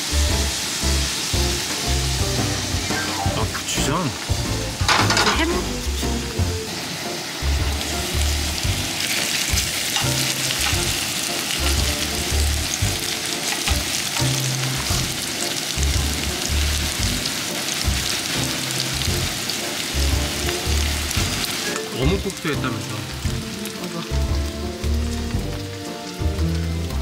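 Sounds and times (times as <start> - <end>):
pancake sizzling in oil: 0.0 - 3.4, 4.2 - 27.0.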